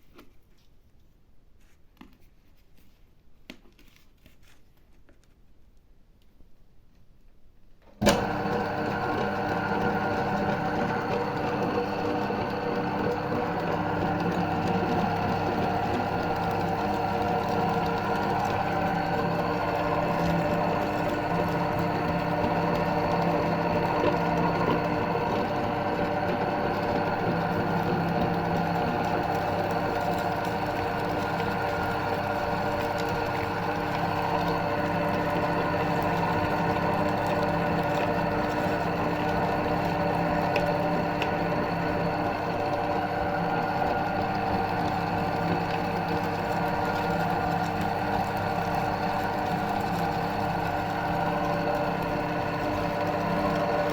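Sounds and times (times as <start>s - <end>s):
meat grinder motor humming: 8.0s - 53.9s.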